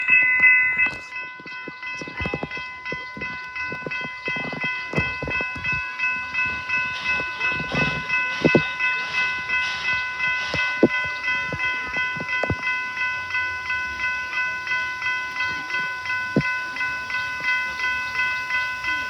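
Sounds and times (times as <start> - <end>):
railroad crossing bell ringing: 0.0 - 19.0
train clattering on track: 0.0 - 19.0.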